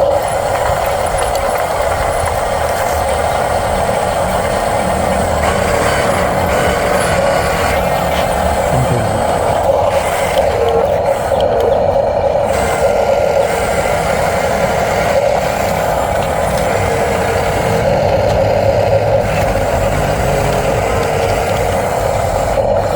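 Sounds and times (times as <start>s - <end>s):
mechanical whirr of rc vehicles: 0.0s - 22.9s.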